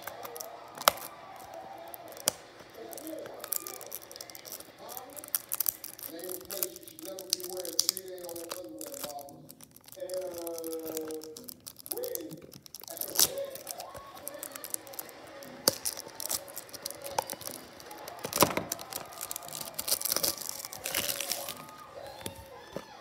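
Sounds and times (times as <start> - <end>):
cellophane tearing and crinkling: 0.0 - 23.0.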